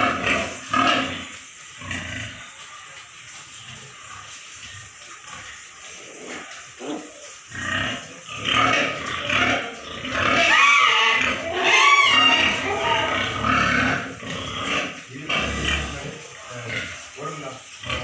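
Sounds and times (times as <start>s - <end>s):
pigs squealing and grunting: 0.0s - 18.0s.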